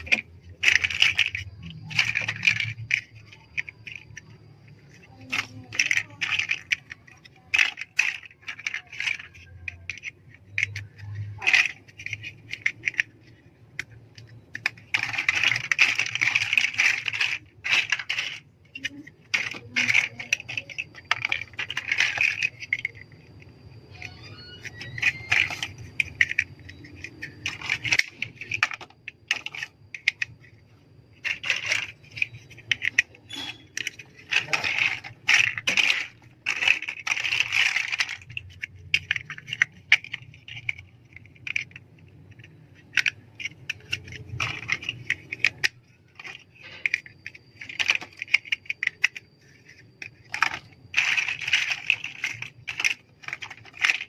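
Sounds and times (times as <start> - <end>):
plastic bricks clicking and rattling: 0.0 - 54.0.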